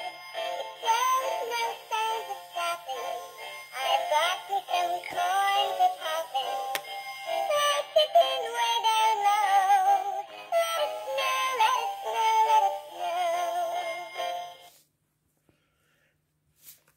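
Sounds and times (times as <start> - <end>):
toy singing through tinny speaker: 0.0 - 14.7.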